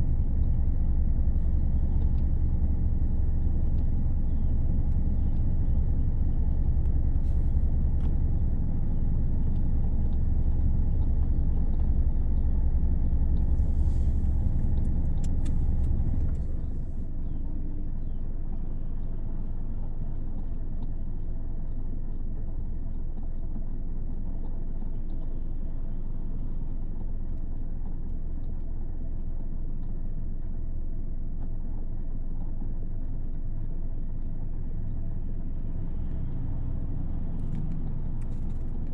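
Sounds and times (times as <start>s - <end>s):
car engine rumble and hum: 0.0s - 38.9s.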